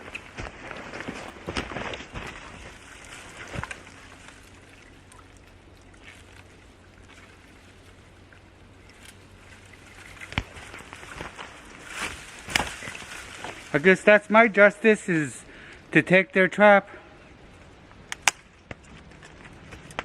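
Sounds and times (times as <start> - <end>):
faint outdoor noise: 0.0 - 20.0.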